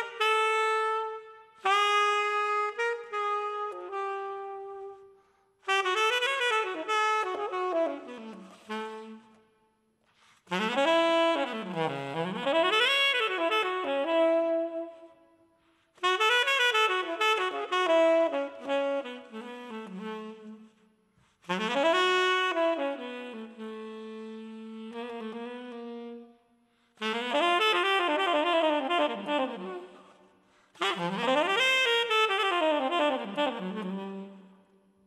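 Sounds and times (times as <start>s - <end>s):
solo jazz saxophone: 0.0s - 35.0s.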